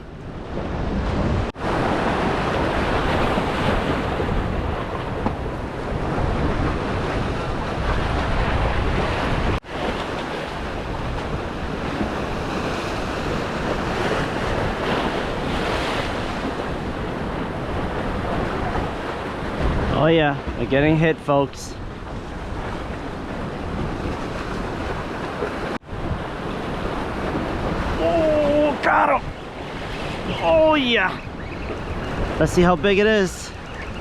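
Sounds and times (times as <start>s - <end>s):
wind buffeting microphone: 0.0s - 21.0s, 21.7s - 34.0s
ocean surf washing: 0.0s - 34.0s.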